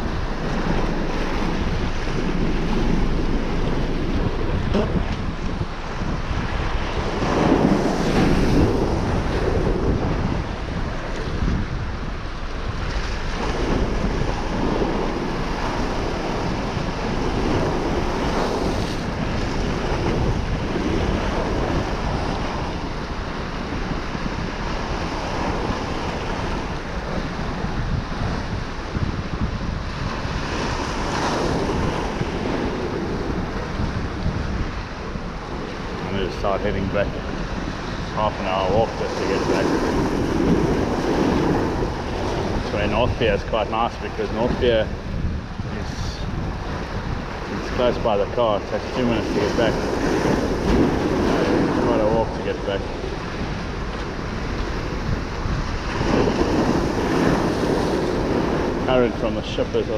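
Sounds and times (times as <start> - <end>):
waves breaking against pier: 0.0 - 59.9
wind buffeting microphone: 0.0 - 59.9.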